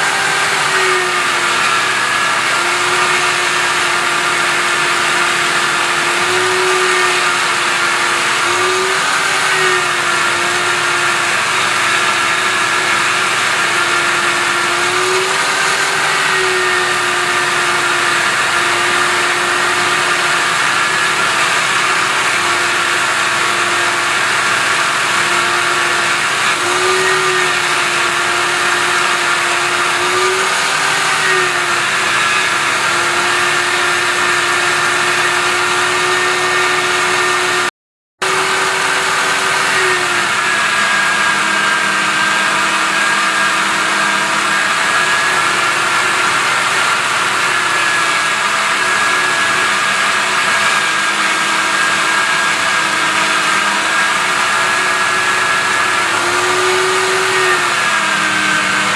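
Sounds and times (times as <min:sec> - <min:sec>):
grinder polishing brush on metal: 0:00.0 - 0:58.9.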